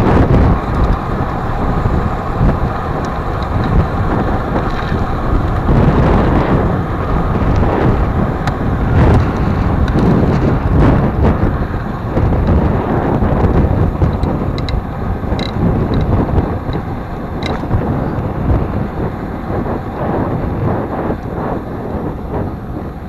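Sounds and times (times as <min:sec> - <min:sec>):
tyres rumbling on rough asphalt: 0:00.0 - 0:23.0
wind buffeting microphone: 0:00.0 - 0:23.0.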